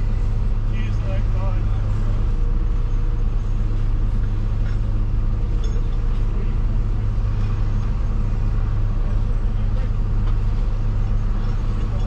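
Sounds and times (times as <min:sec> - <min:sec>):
heavy diesel engine humming: 0:00.0 - 0:12.0.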